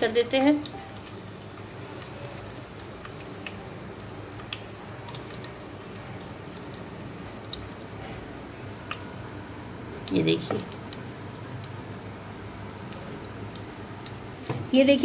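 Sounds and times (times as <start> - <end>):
spices sizzling in hot oil: 0.0 - 15.0.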